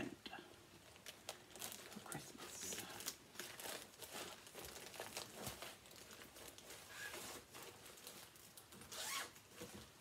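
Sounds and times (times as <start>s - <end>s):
paper and card rustling: 1.2s - 10.0s.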